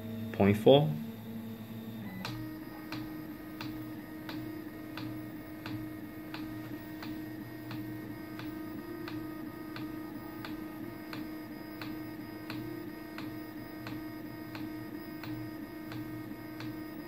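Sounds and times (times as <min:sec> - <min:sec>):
fans humming: 0:00.0 - 0:17.0
printer ticking: 0:02.2 - 0:17.0.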